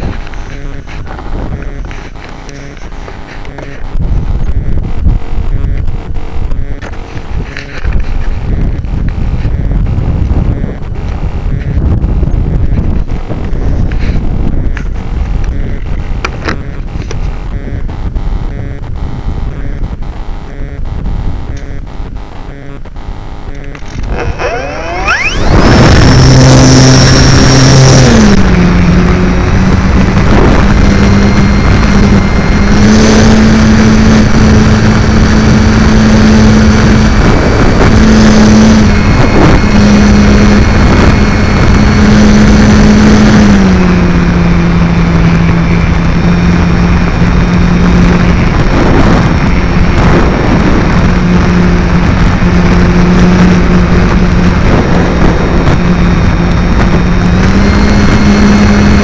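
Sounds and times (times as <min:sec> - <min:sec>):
electric motor and propeller hum: 0:00.0 - 0:59.0
rush of air and vibration: 0:00.0 - 0:59.0.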